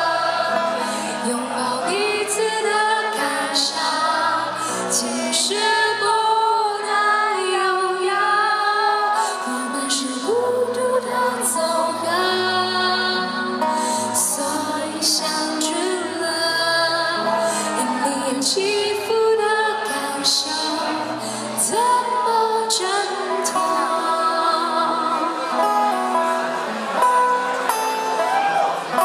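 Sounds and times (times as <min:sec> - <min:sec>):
woman singing a pop ballad: 0:00.0 - 0:25.7
acoustic guitar: 0:00.0 - 0:29.0.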